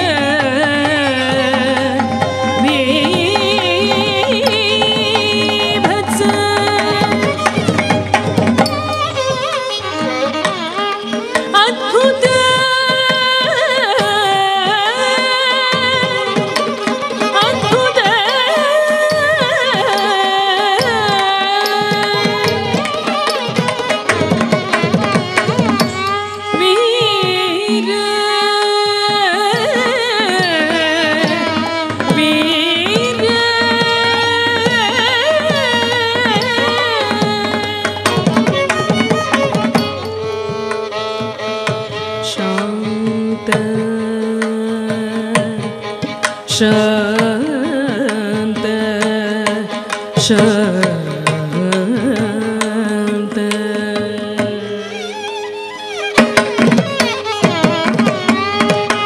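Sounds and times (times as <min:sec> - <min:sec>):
drum strokes: 0:00.1 - 0:49.6, 0:50.2 - 0:59.0.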